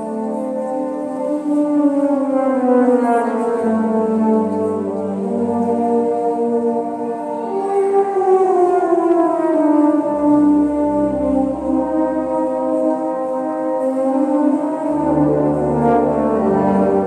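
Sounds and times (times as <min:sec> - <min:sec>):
wind band playing funeral march: 0:00.0 - 0:17.0.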